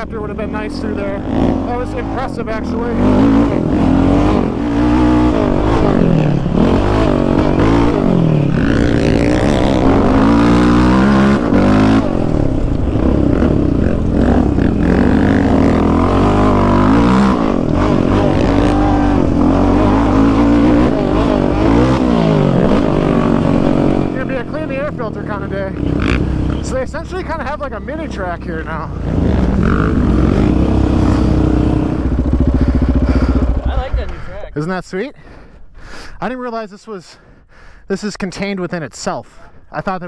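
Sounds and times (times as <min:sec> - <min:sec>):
quad engine revving: 0:00.0 - 0:34.3.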